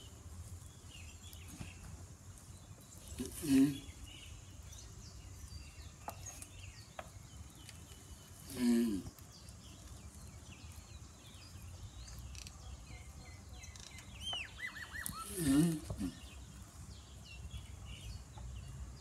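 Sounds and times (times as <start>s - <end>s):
faint small birds chirping: 0.0s - 19.0s.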